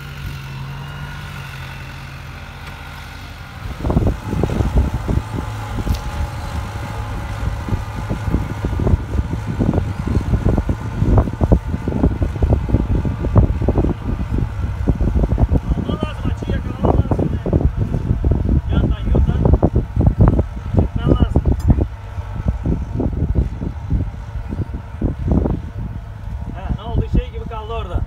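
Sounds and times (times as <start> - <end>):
tractor engine humming: 0.0 - 28.0
low thumping and buffeting: 3.4 - 28.0.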